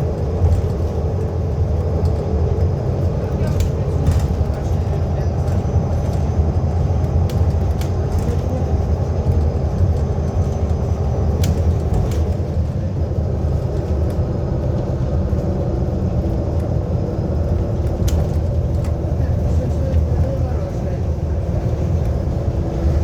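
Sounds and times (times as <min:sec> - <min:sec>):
bus engine and road rumble: 0:00.0 - 0:23.0.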